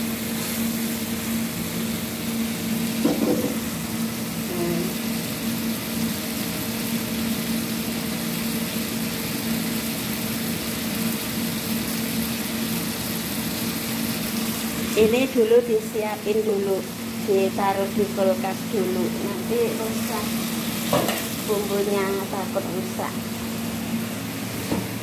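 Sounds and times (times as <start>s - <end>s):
fish sizzling in a pan: 0.0s - 25.0s.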